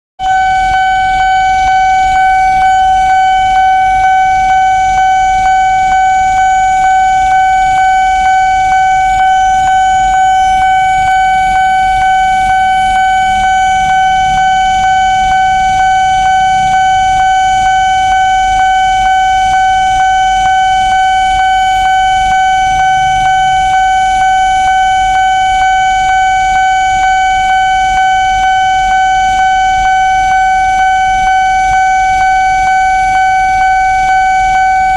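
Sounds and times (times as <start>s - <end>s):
level-crossing warning bell ringing: 0.2s - 34.9s.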